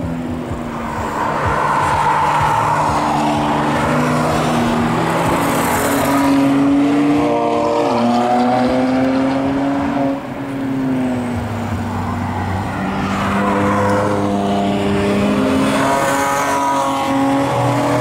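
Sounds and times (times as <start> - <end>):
cars revving past: 0.0 - 18.0.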